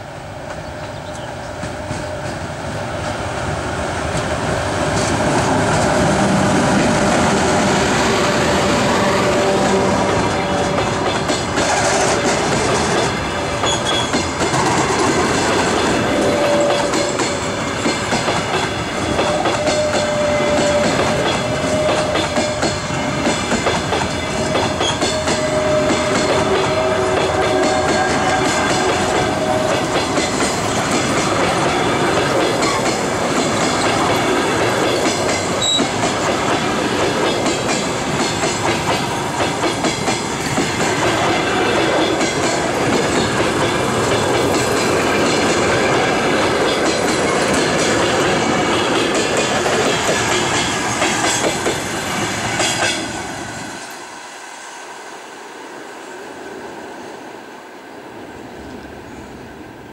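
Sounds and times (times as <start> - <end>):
train wheels rumbling on rails: 0.0 - 59.9
clickety-clack over rail joints: 0.4 - 54.0.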